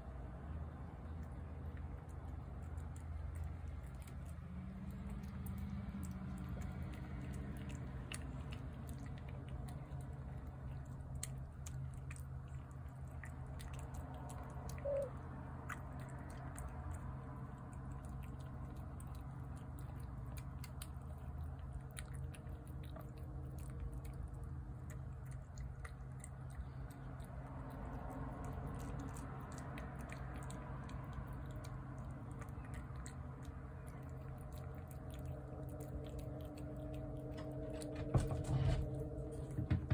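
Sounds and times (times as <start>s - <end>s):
cat chewing and lapping: 0.0s - 39.9s
low hum: 0.0s - 39.9s.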